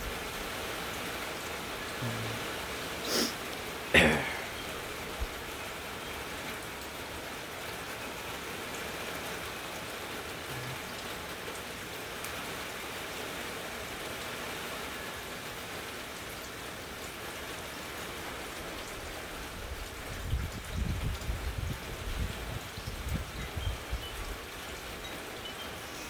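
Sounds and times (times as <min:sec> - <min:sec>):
rain drop ticks: 0:00.0 - 0:26.0
rain falling steadily: 0:00.0 - 0:26.0.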